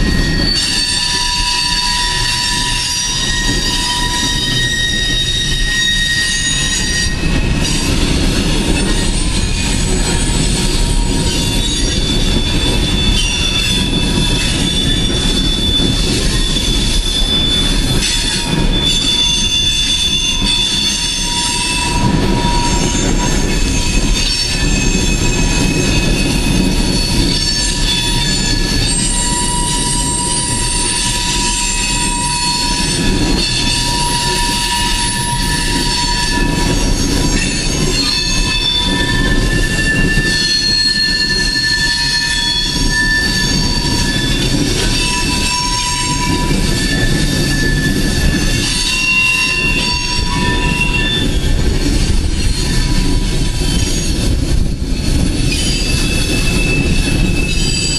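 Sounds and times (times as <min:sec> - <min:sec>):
wheels squealing: 0:00.0 - 0:54.4, 0:55.4 - 0:57.9
freight train wheels rumbling: 0:00.0 - 0:57.9.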